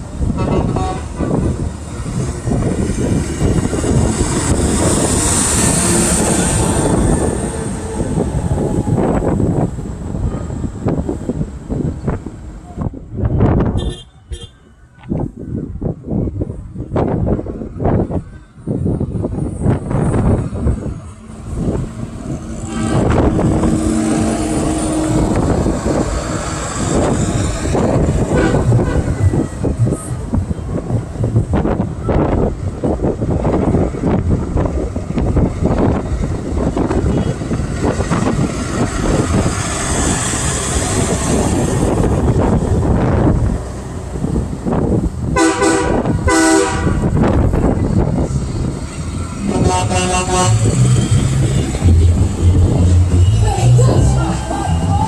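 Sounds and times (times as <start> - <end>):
truck engines driving past: 0.0 - 55.0.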